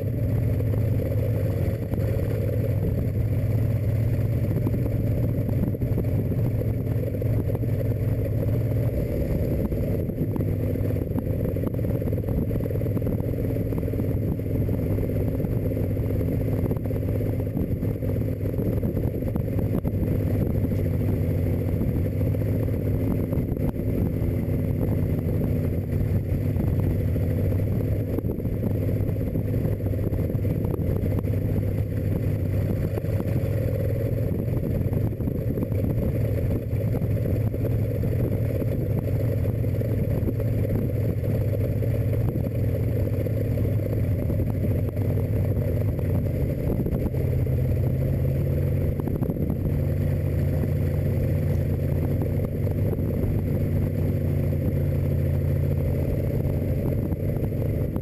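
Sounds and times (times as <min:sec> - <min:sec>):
car engine running steadily: 0:00.0 - 0:58.0.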